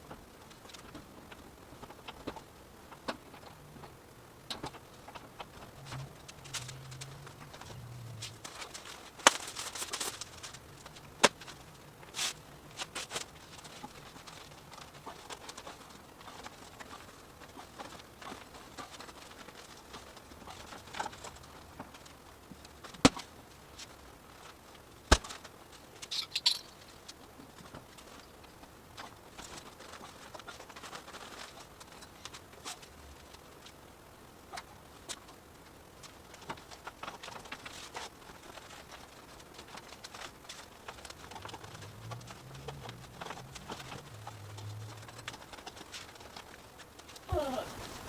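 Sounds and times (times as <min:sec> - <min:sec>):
insulation rustling: 0:00.0 - 0:48.0.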